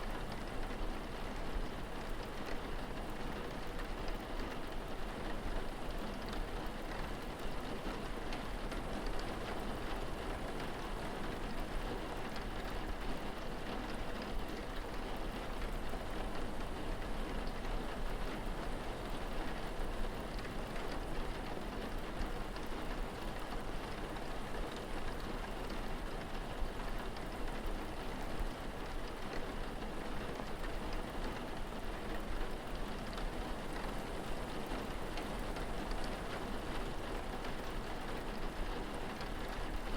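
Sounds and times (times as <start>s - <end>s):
steady rain falling: 0.0s - 39.9s
raindrops ticking on hard surfaces: 0.1s - 39.9s.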